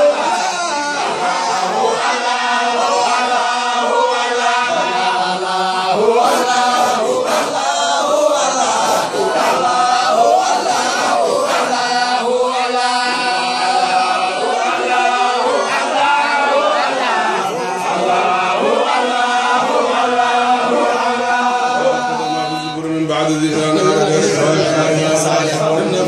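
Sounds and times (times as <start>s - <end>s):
men chanting in unison: 0.0s - 26.0s.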